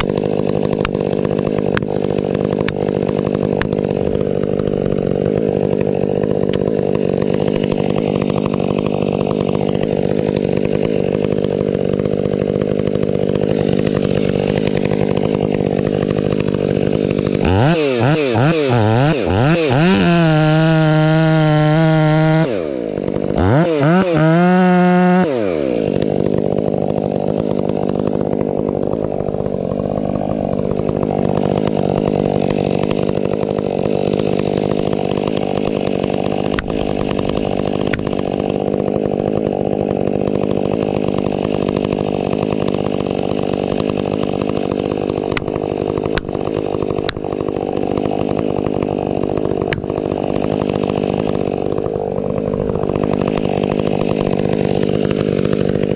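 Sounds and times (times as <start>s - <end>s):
chainsaw revving and cutting wood: 0.0s - 55.9s.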